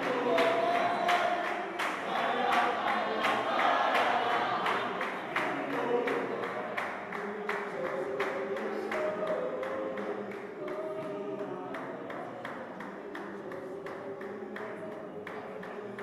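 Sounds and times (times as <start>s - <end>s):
congregation singing a hymn: 0.0s - 16.0s
rhythmic hand clapping: 0.0s - 16.0s.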